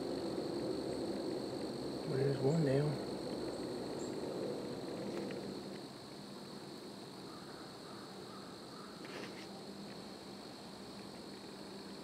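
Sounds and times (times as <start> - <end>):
faint high-pitched hum: 0.0 - 12.0
rustle: 0.0 - 12.0.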